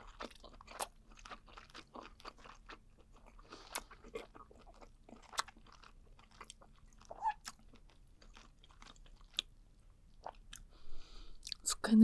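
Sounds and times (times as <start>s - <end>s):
wet chewing: 0.0s - 10.7s.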